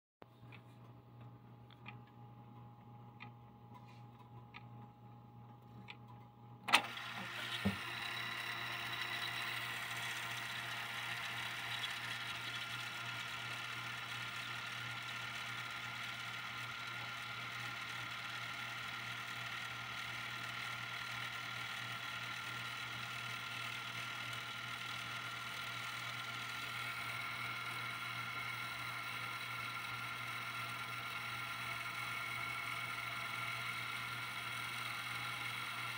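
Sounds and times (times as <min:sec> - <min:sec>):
cassette motor and reels whirring: 0:00.4 - 0:35.9.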